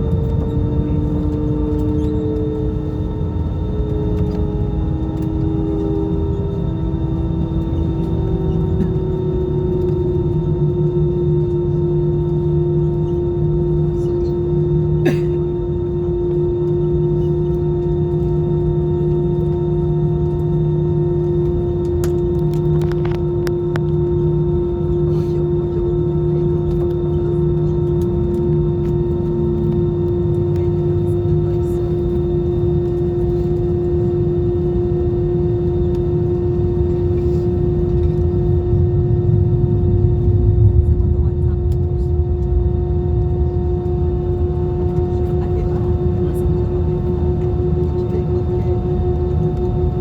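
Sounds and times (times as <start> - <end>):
jet engines humming: 0.0 - 50.0.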